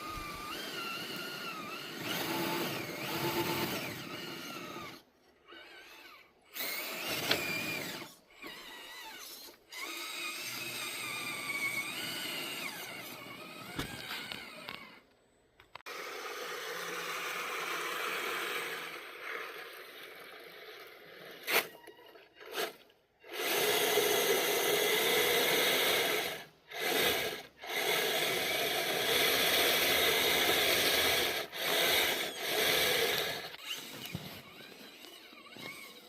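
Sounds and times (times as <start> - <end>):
rc truck motor whirring: 0.0 - 36.0.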